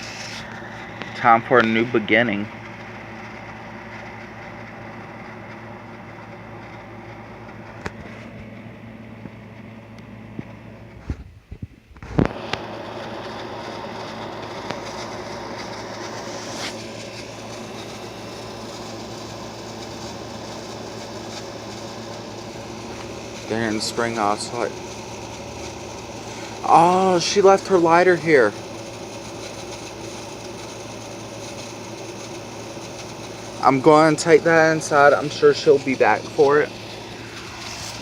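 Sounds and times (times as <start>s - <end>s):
mechanical hum: 0.0s - 38.0s.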